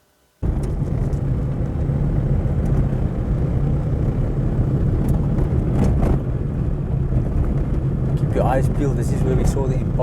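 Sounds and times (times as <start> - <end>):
vehicle engine and road rumble: 0.4 - 10.0.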